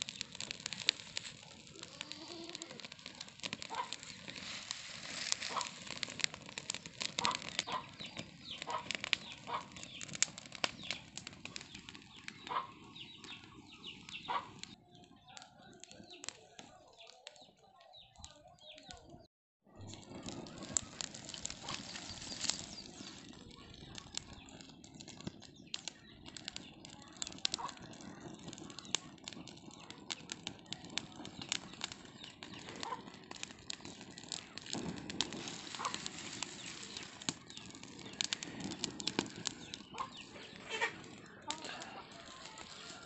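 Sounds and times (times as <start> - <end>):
open fire crackling and popping: 0.0 - 43.0.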